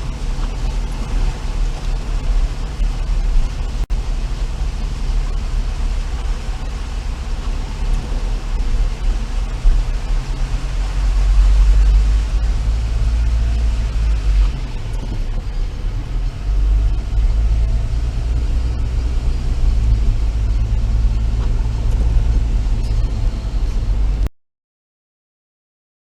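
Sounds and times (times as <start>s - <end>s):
car engine and road noise: 0.0s - 24.3s.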